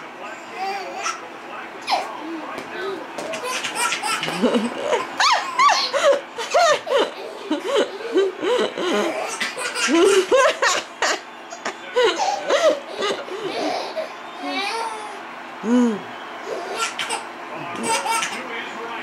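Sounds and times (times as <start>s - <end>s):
baby laughing: 0.4s - 10.9s, 12.0s - 15.2s, 16.5s - 18.5s.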